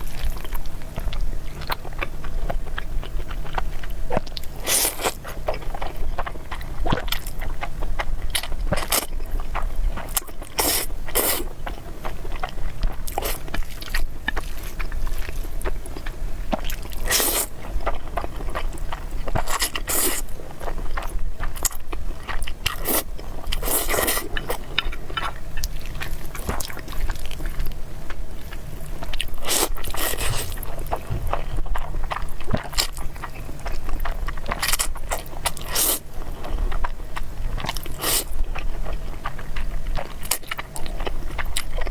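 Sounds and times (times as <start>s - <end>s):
low steady hum: 0.0s - 41.9s
person chewing food: 0.0s - 41.9s.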